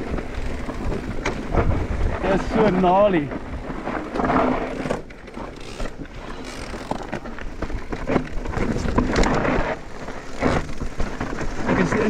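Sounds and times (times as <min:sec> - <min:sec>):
bike knocks and rattles: 0:00.0 - 0:12.0
tyres rumbling over stones: 0:00.0 - 0:12.0.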